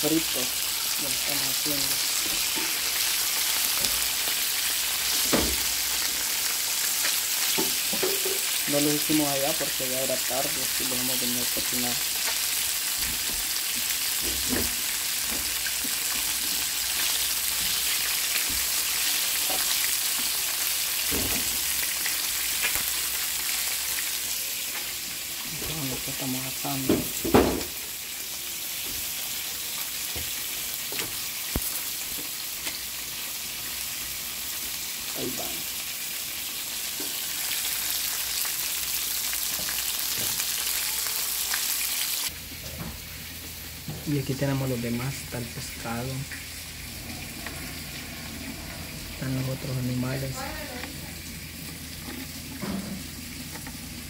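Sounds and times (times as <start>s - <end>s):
frying sizzle with pops: 0.0s - 54.0s.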